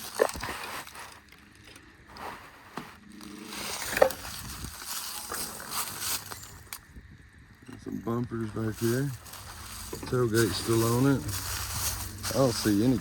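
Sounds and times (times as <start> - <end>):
footsteps crunching through dry grass: 0.0 - 6.9, 8.3 - 13.0.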